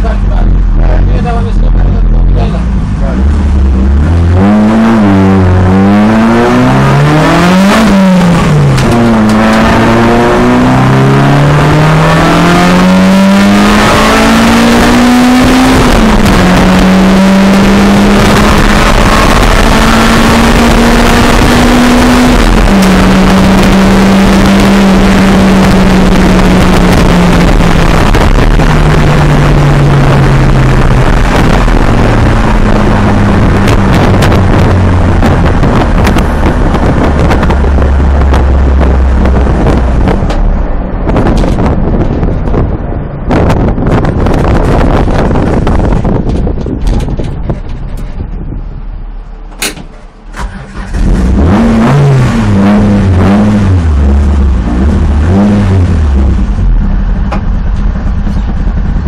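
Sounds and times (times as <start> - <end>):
car engine revving hard: 0.0 - 47.2, 50.3 - 57.5
road and wind noise: 0.0 - 59.0.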